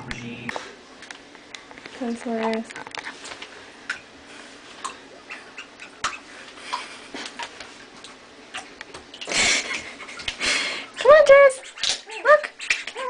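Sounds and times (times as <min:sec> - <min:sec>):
puppy paws splashing in bathwater: 0:00.0 - 0:13.0.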